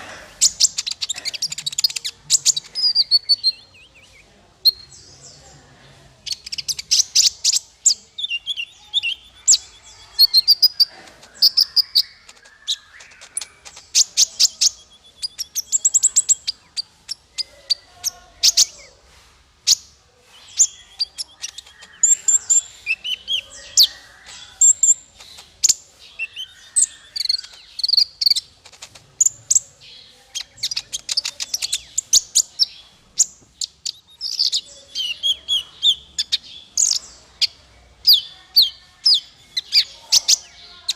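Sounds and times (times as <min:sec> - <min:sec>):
small songbird singing: 0:00.0 - 0:40.9.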